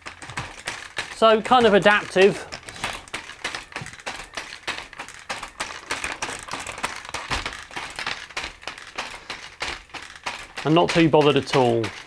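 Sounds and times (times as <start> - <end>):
robot leg joints clicking: 0.0 - 12.0.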